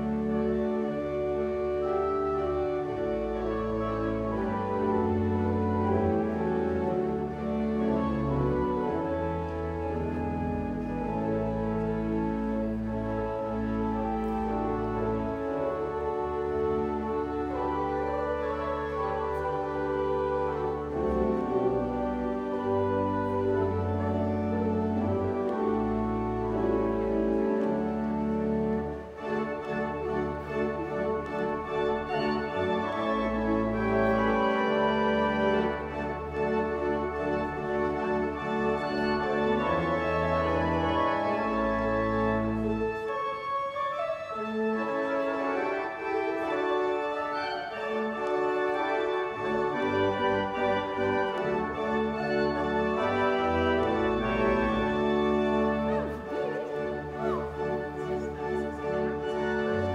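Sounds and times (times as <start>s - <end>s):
low organ pedal notes: 0.0s - 59.9s
pipe organ playing held chords: 0.0s - 59.9s.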